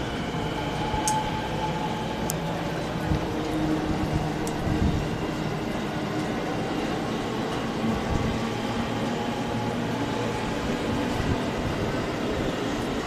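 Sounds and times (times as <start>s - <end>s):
electric train rolling past: 0.0s - 13.0s.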